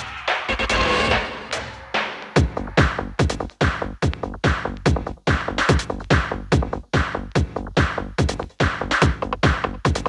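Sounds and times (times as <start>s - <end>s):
fast electronic dance music: 0.0s - 10.0s.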